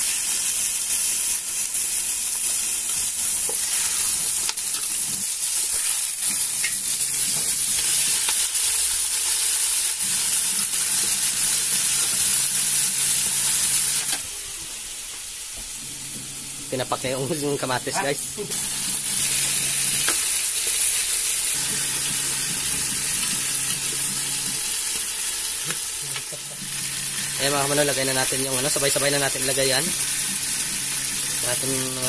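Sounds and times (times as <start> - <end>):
chicken sizzling in hot oil: 0.0 - 15.7, 16.4 - 32.0.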